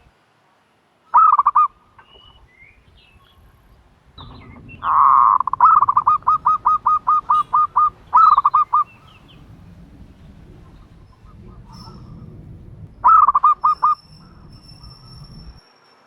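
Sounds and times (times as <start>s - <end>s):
turtle dove calling: 1.1s - 15.6s.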